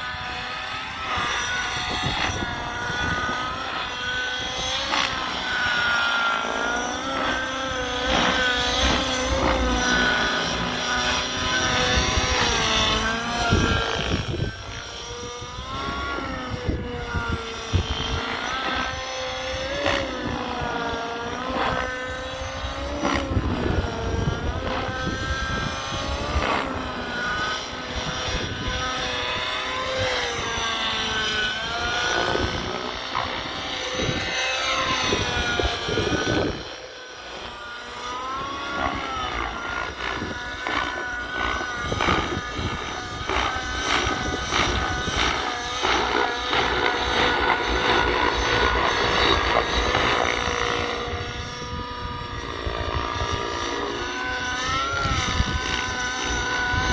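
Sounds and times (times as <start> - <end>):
model helicopter engine: 0.0 - 56.9.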